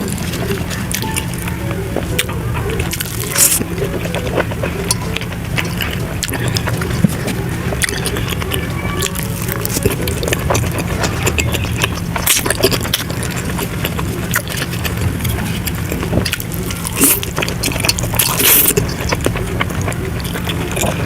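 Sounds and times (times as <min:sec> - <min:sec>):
chewing with wet mouth smacks: 0:00.0 - 0:21.0.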